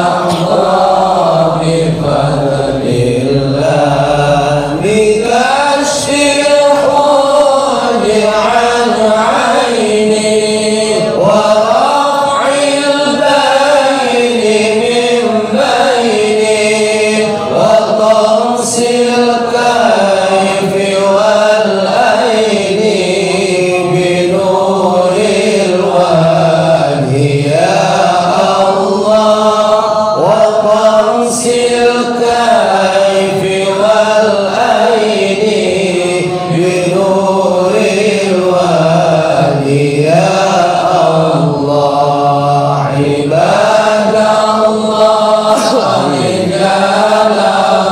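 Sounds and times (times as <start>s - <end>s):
congregation chanting in unison: 0.0s - 47.9s.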